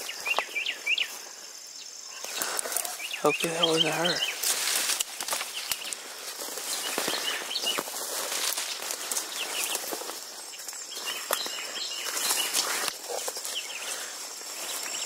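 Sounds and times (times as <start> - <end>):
footsteps crunching: 0.0 - 1.4, 2.2 - 15.0
brush rustling: 2.2 - 15.0.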